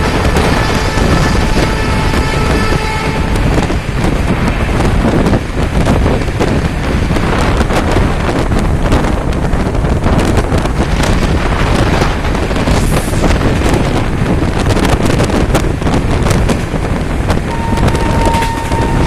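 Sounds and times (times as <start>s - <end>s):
low rumble of wheels and track: 0.0s - 19.0s
wind rushing over microphone: 0.0s - 19.0s.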